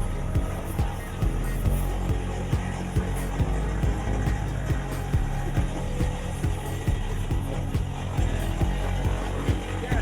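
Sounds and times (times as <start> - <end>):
music with bass beat: 0.0 - 10.0.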